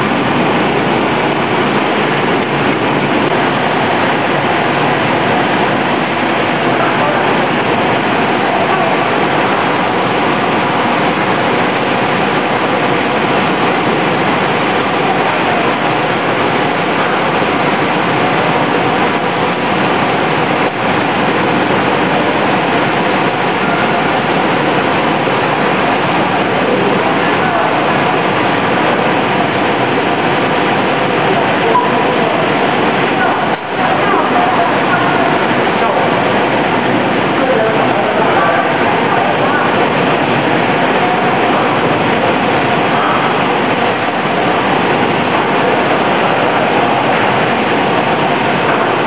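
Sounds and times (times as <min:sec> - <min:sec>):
frying machine running: 0:00.0 - 0:49.0.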